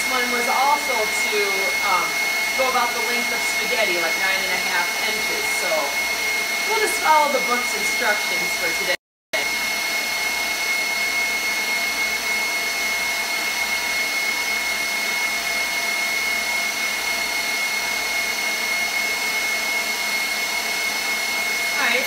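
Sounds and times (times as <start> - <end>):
stand mixer motor whining: 0.0 - 22.0.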